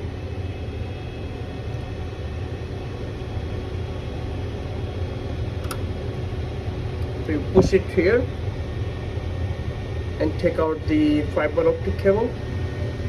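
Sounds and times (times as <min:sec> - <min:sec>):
faint steady hum: 0:00.0 - 0:13.0
low mechanical rumble: 0:00.0 - 0:13.0.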